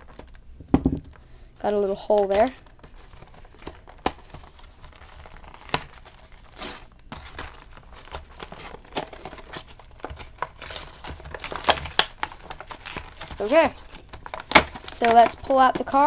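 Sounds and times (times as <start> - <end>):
plastic packaging crinkling: 0.0 - 16.0
packaging tearing: 2.2 - 16.0.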